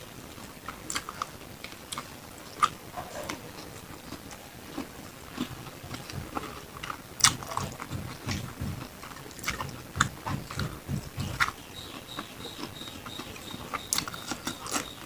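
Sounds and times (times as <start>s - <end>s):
chewing and biting meat: 0.7s - 15.0s.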